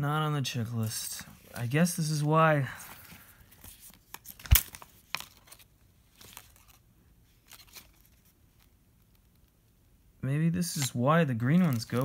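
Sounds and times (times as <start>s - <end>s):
plastic and paper crinkling: 0.8s - 9.5s, 10.6s - 12.0s.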